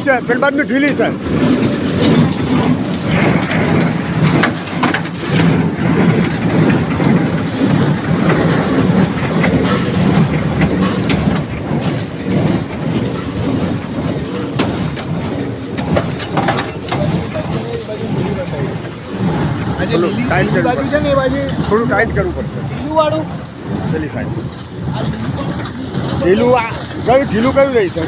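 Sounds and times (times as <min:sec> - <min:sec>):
baler mechanical drone: 0:00.0 - 0:28.0
clicking and clatter: 0:00.0 - 0:28.0.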